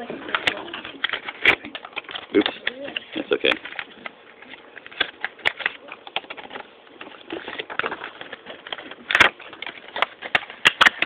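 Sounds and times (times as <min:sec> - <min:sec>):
plastic packaging crackling: 0:00.0 - 0:11.0.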